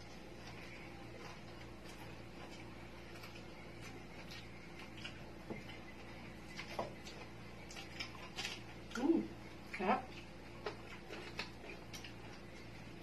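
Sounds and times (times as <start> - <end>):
crunchy chewing: 0.0 - 13.0
faint steady hum: 0.0 - 13.0.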